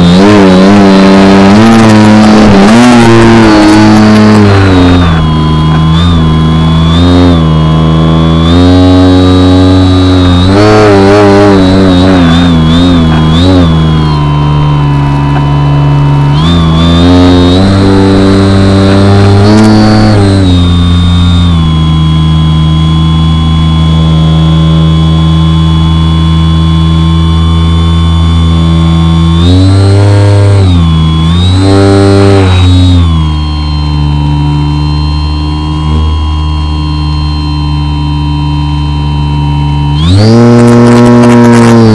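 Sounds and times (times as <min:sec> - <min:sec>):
model plane motor droning: 0:00.0 - 0:41.9.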